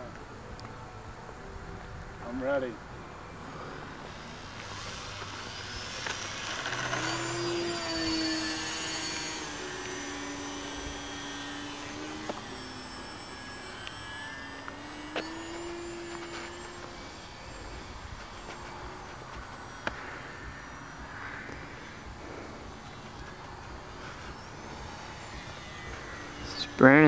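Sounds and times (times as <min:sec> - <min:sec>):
model plane motor whining: 0:03.1 - 0:27.0.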